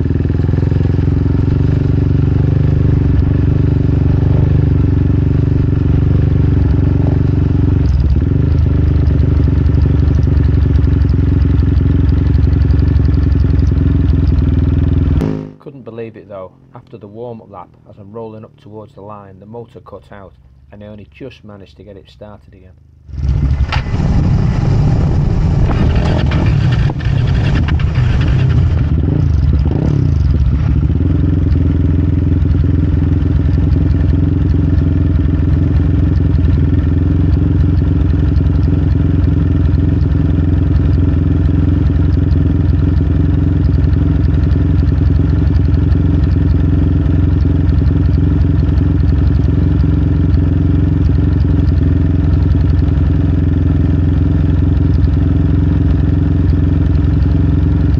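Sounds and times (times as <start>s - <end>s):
motorcycle engine running: 0.0s - 15.6s, 22.8s - 57.9s.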